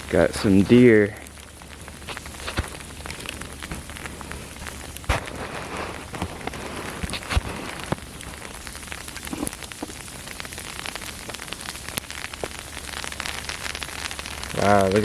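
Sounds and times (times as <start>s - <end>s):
rain pattering on surfaces: 0.0s - 15.0s.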